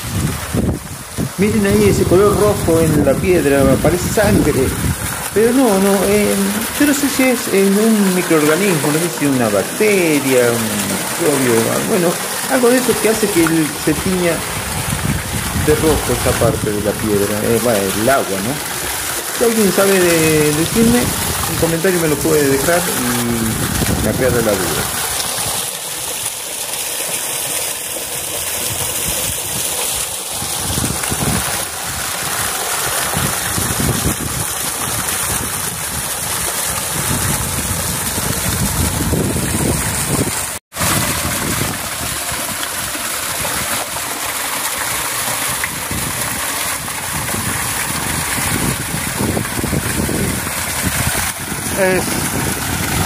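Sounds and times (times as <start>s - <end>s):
small waterfall splashing: 0.0s - 53.0s.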